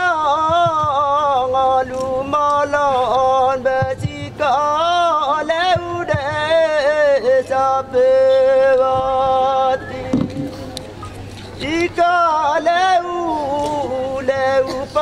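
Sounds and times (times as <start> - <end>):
man chanting into microphone: 0.0 - 10.6, 11.6 - 15.0.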